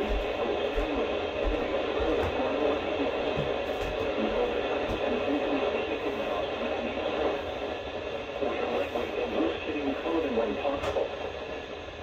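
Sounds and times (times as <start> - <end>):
faint radio voice: 0.0 - 7.5, 8.3 - 11.3
radio static: 0.0 - 11.7.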